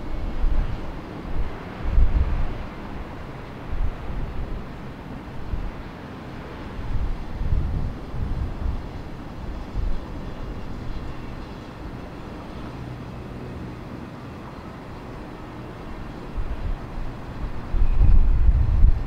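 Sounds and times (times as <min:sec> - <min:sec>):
jet engines humming: 0:00.0 - 0:18.8.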